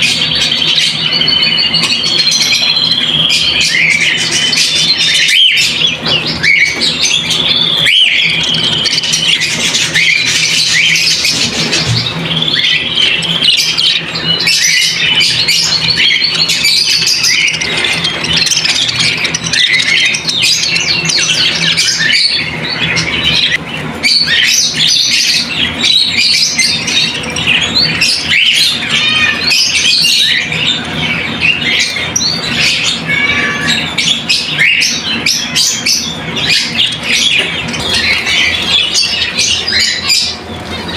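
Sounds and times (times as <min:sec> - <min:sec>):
caged birds chattering: 0:00.0 - 0:40.9.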